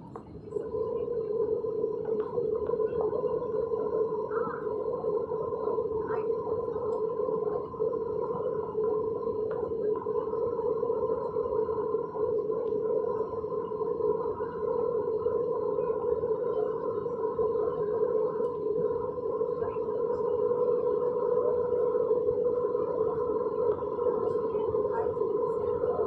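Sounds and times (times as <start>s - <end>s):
airplane engines humming: 0.0s - 26.0s.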